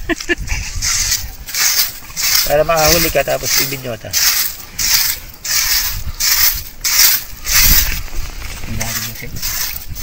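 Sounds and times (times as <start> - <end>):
rhythmic scraping strokes: 0.5 - 10.0.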